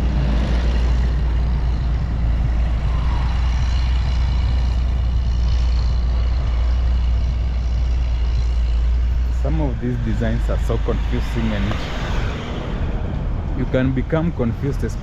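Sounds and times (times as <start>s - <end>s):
deep low rumble: 0.0s - 15.0s
highway traffic with trucks: 0.0s - 15.0s.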